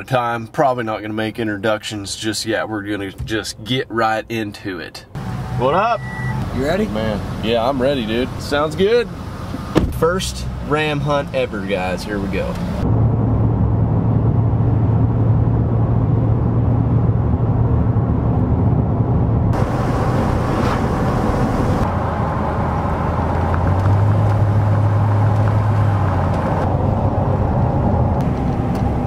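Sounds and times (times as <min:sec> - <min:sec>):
vehicle engine drone: 0:05.0 - 0:29.0
tyre and road noise: 0:05.1 - 0:29.0.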